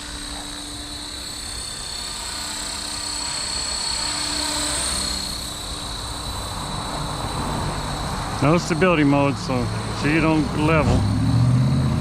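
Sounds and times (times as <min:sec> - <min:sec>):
high motor whine: 0:00.0 - 0:12.0
rotor blades rushing: 0:00.0 - 0:12.0.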